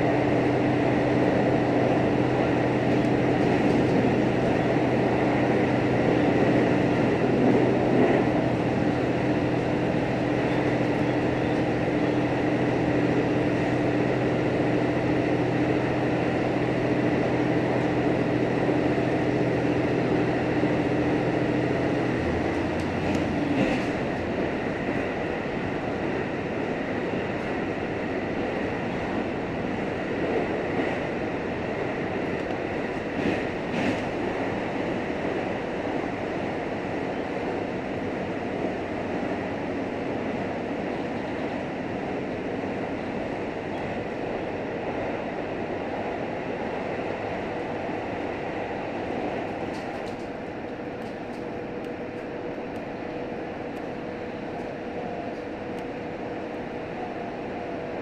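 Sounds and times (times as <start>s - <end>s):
railcar mechanical hum: 0.0s - 58.0s
wheels rumbling on rail: 0.0s - 58.0s.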